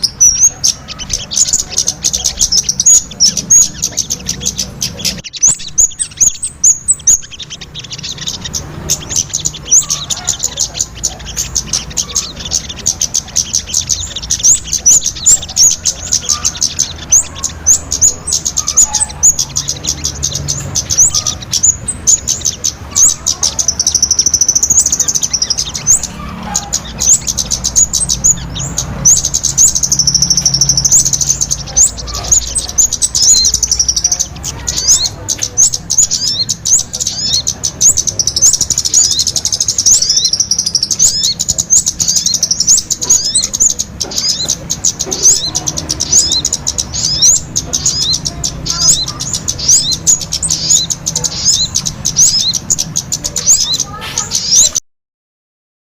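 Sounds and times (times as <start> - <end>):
small songbirds chirping and trilling: 0.0 - 54.8.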